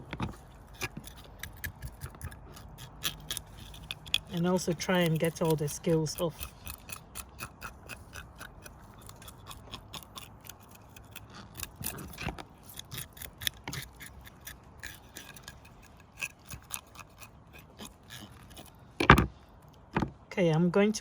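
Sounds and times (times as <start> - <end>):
knife scraping fish scales: 0.3 - 19.0.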